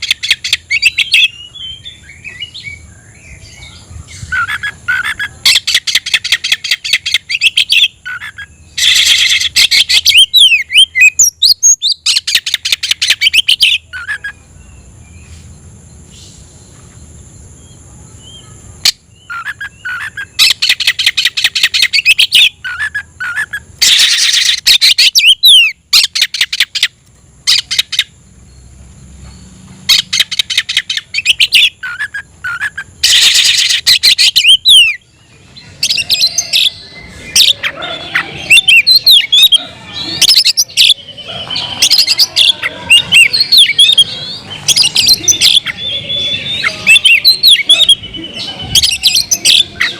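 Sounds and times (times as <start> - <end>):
bird chirping and whistling: 0.0 - 15.4, 17.6 - 28.7, 29.3 - 49.9.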